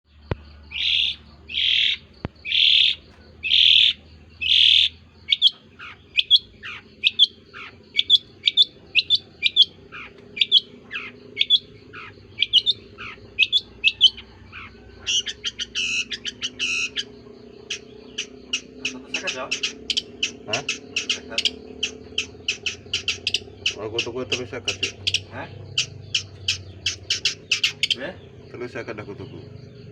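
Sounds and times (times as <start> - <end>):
bird chatter: 0.1 - 29.9
shrike harsh calls: 0.6 - 29.9.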